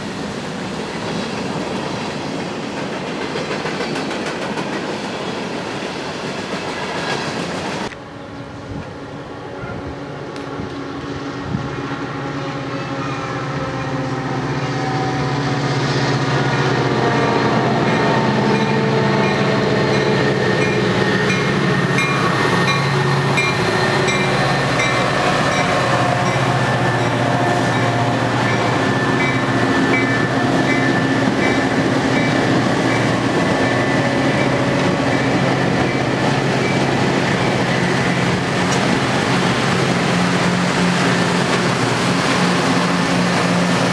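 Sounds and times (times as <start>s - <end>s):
diesel train passing: 0.0s - 43.9s.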